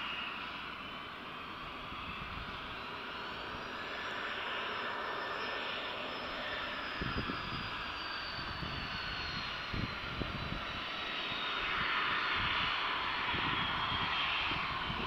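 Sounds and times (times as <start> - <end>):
jet engines hissing and whining: 0.0 - 15.0.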